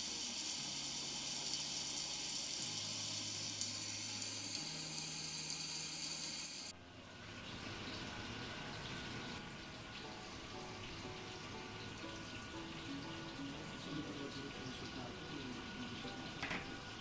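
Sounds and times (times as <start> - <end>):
fish sizzling in hot oil: 0.0 - 14.0
soft background music: 0.0 - 17.0.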